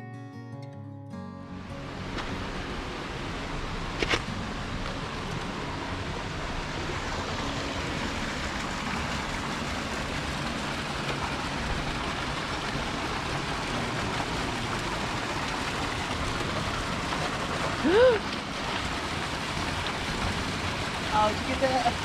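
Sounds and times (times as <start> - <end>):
water rushing over rocks: 1.7 - 22.0.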